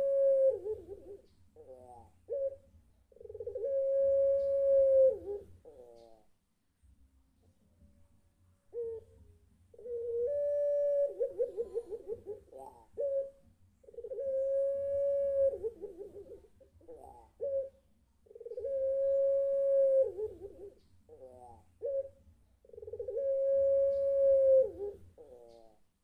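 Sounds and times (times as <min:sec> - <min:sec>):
dove cooing: 0:00.0 - 0:06.3, 0:08.7 - 0:25.8.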